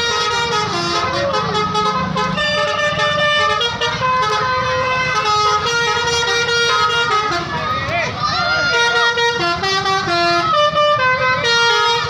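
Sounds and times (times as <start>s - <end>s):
multi-tone bus horn melody: 0.0s - 7.7s, 8.6s - 12.0s
bus engine running: 0.0s - 12.0s.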